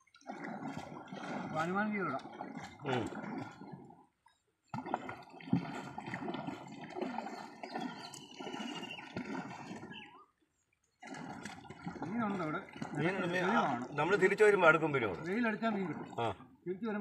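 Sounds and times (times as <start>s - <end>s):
water splashing around boat hull: 0.0s - 16.6s.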